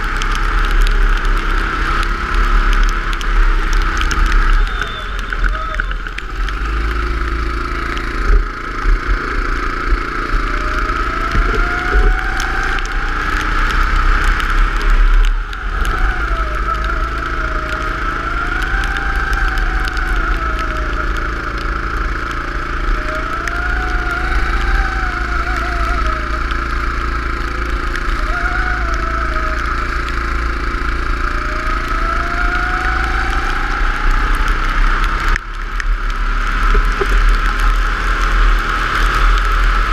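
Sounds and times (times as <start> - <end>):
go-kart engine accelerating: 0.0 - 39.9
low rumble: 0.0 - 39.9.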